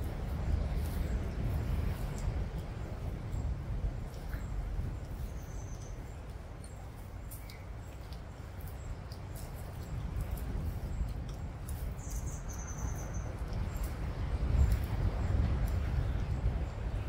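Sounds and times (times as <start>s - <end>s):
tortoises chewing grass: 0.0s - 17.0s
birds chirping: 0.4s - 17.0s.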